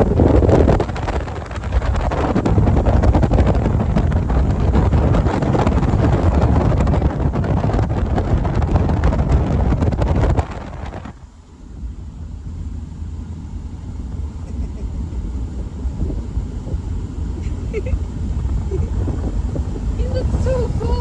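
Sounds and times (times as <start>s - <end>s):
car engine running: 0.0s - 21.0s
wind buffeting microphone: 0.0s - 21.0s.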